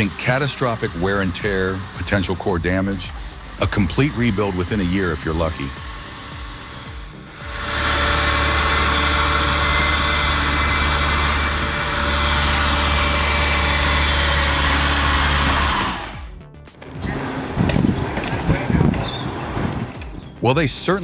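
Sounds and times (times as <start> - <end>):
heavy machine engine humming: 0.0 - 20.4.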